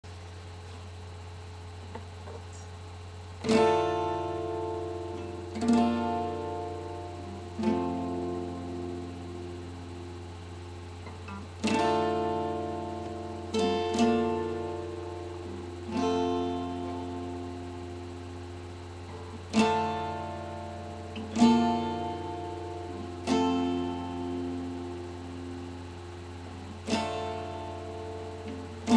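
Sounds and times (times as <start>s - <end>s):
low electrical hum: 0.0s - 28.9s
acoustic guitar strumming chords: 0.1s - 28.9s.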